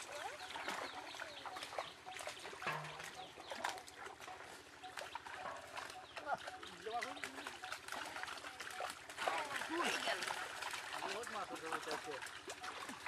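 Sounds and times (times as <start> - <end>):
light splashing of water: 0.0 - 13.0.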